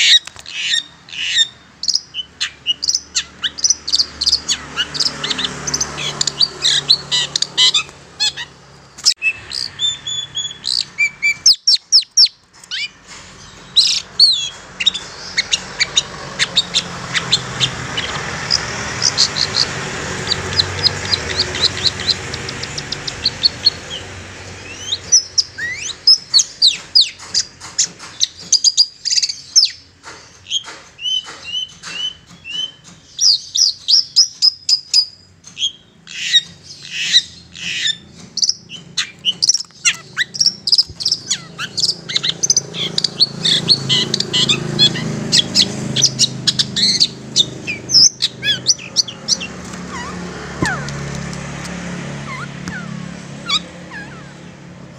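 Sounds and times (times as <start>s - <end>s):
shrike singing: 0.0s - 27.6s, 35.7s - 54.9s.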